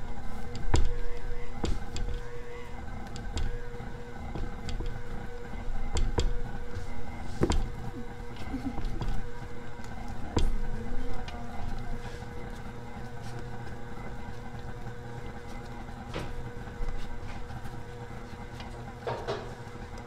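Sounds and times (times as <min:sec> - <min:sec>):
stand mixer motor hum: 0:00.0 - 0:20.0.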